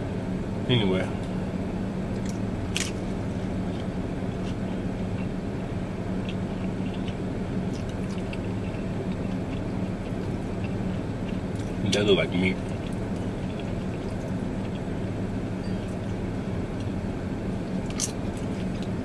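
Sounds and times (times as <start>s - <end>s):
low hum inside car: 0.0s - 19.0s
person chewing food: 2.2s - 11.8s, 12.5s - 19.0s.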